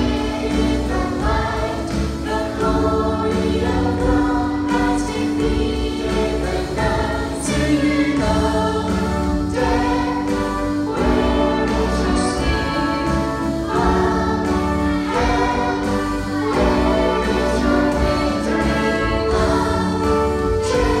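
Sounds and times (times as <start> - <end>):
children's choir singing: 0.0 - 21.0
small instrumental ensemble: 0.0 - 21.0.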